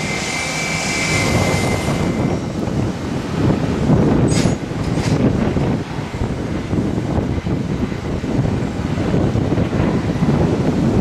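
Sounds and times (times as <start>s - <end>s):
aircraft engine rumble: 0.0s - 11.0s
high whine: 0.0s - 11.0s.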